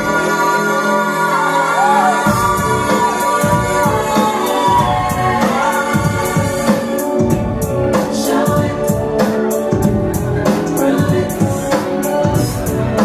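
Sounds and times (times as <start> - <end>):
pop song over sound system: 0.0 - 13.0.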